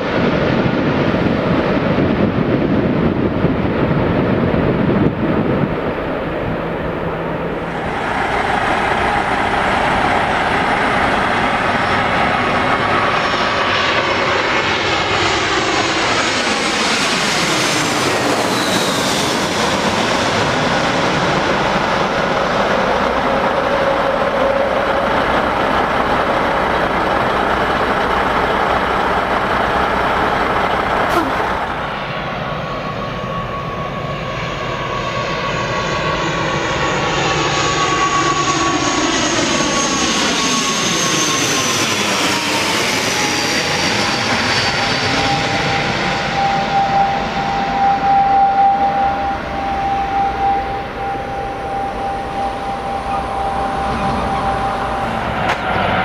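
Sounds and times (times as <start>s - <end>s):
jet airliner engine rumble and whine: 0.0s - 56.0s.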